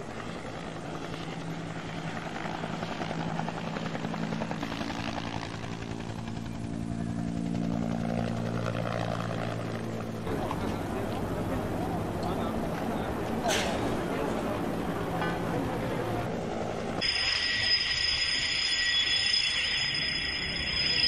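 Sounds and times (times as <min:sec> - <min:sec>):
helicopter rotor drone: 0:00.0 - 0:21.0.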